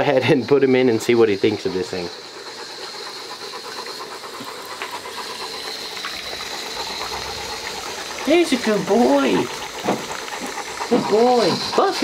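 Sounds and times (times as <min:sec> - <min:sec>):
hose water flowing into pool: 0:00.0 - 0:12.0.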